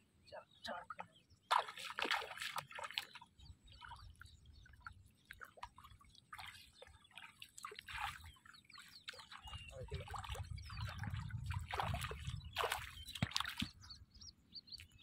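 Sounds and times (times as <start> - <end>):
shallow water splashing: 1.4 - 14.0.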